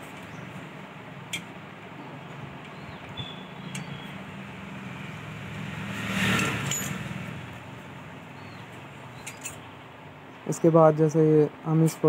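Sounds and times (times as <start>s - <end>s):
road vehicle passing: 0.0s - 11.0s.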